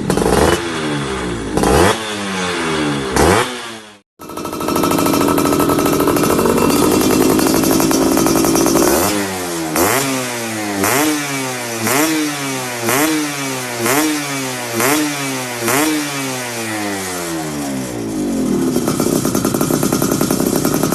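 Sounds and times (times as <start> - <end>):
two-stroke engine revving: 0.0 - 20.9.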